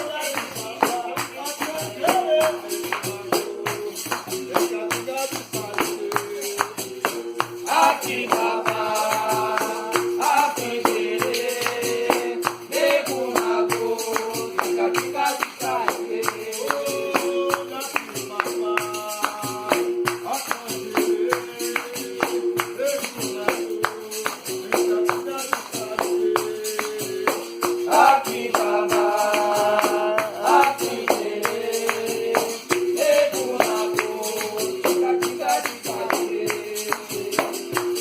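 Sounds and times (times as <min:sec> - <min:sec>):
pandeiro rhythm: 0:00.0 - 0:38.0
person singing: 0:00.0 - 0:38.0.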